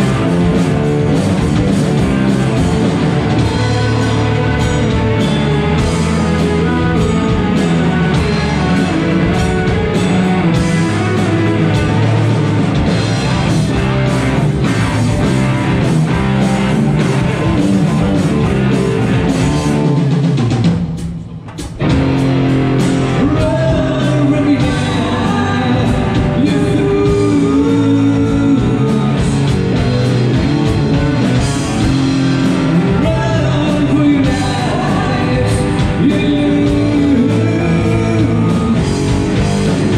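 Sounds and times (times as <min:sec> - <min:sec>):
lead singer: 0:00.0 - 0:20.2, 0:21.8 - 0:39.9
live heavy rock band: 0:00.0 - 0:39.9.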